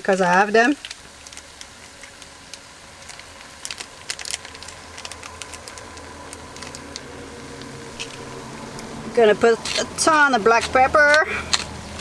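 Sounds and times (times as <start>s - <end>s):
plastic packets crinkling: 0.0s - 9.0s, 9.6s - 12.0s
low hum: 0.0s - 12.0s.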